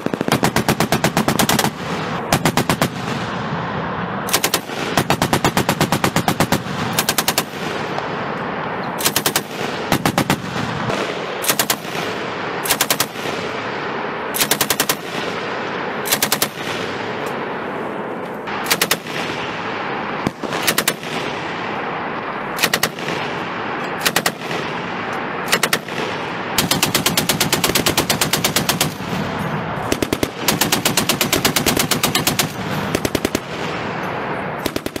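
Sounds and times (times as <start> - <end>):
continuous gunfire: 0.0 - 17.6, 18.5 - 35.0.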